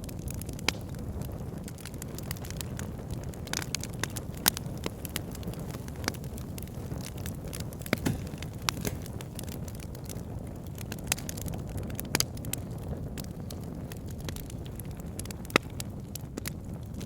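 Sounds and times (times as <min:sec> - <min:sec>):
campfire crackles and pops: 0:00.0 - 0:17.0
campfire low rumble: 0:00.0 - 0:17.0.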